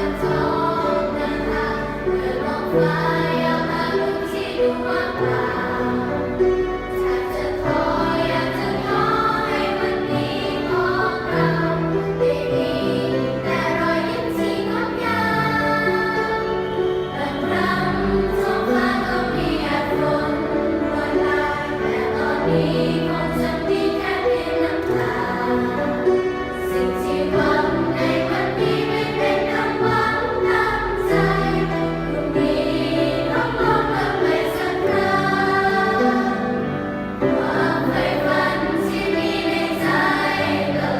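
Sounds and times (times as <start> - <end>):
youth choir singing in harmony: 0.0 - 40.9.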